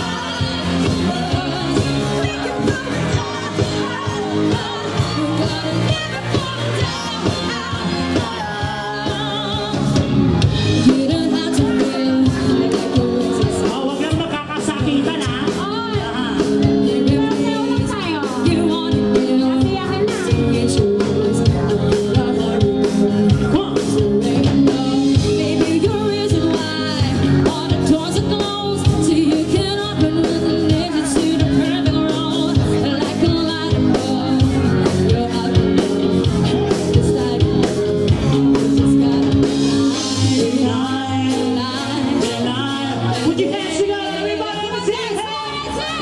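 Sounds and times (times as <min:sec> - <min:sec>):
drum kit: 0:00.0 - 0:46.0
guitar: 0:00.0 - 0:46.0
woman singing lead: 0:00.0 - 0:46.0.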